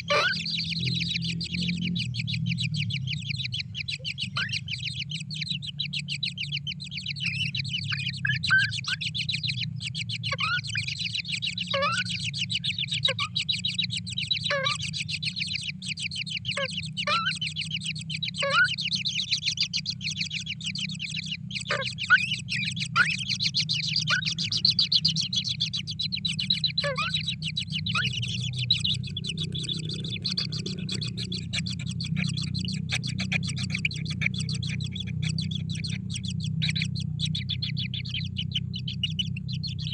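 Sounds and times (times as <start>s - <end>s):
falling bird calls: 0.0s - 39.9s
high chittering bird trill: 0.0s - 39.9s
steady low hum: 0.0s - 39.9s.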